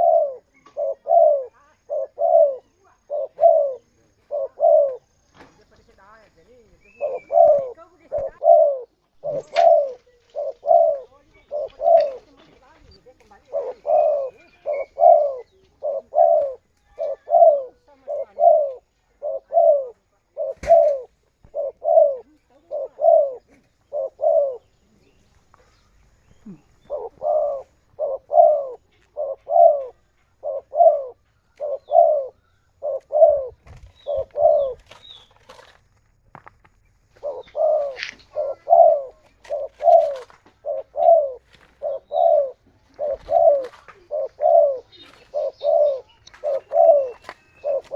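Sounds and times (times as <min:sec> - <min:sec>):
dove cooing: 0:00.0 - 0:35.7, 0:37.1 - 0:47.9.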